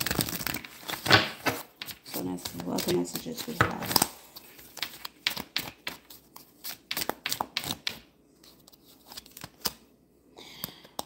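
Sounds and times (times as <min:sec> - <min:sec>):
playing cards being shuffled: 0:00.0 - 0:09.9.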